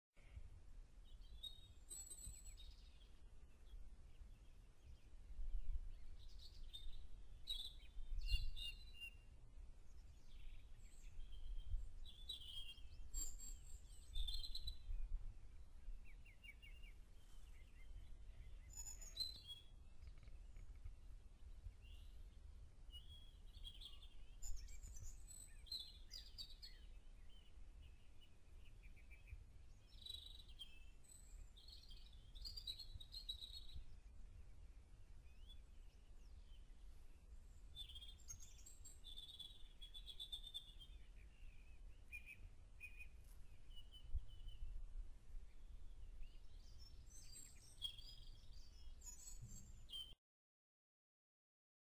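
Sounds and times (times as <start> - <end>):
songbirds singing: 0.2 - 50.2.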